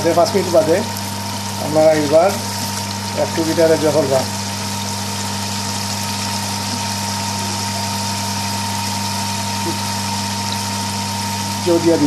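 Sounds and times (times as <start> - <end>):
low mechanical hum: 0.0 - 12.0
sauce bubbling in a pan: 0.3 - 11.7.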